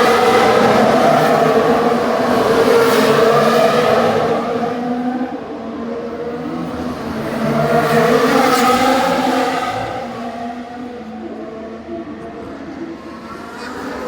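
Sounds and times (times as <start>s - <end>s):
racing cars passing by: 0.0s - 14.0s.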